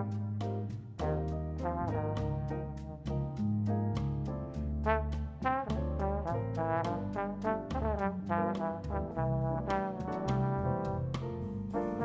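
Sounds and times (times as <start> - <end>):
bass: 0.0 - 12.0
drums: 0.0 - 12.0
trombone playing jazz line: 0.0 - 12.0.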